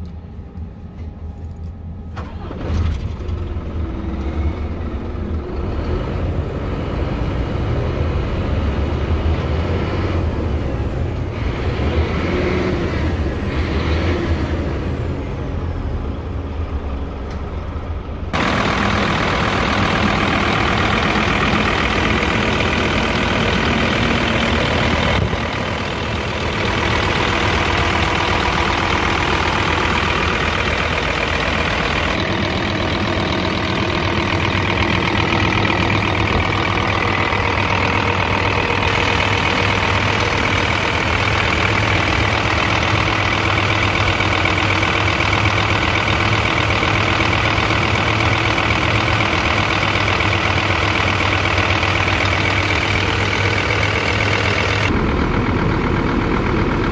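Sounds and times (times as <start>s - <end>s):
truck diesel engine idling: 1.9s - 56.9s.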